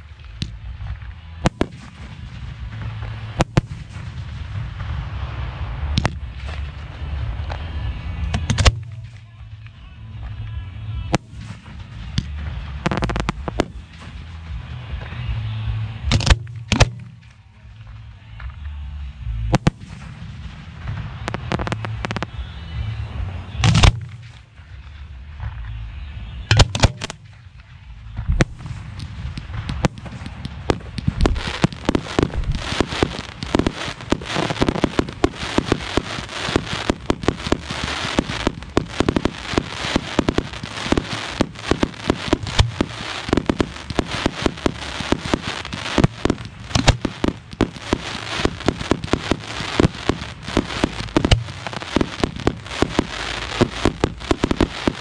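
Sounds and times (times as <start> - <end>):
fireworks bangs: 0.0 - 9.6, 11.0 - 18.7, 19.3 - 55.0.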